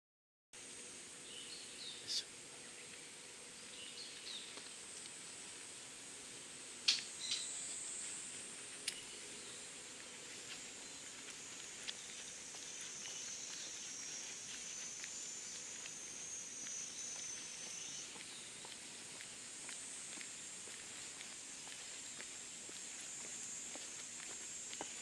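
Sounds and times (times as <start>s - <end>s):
insects droning: 0.6s - 25.0s.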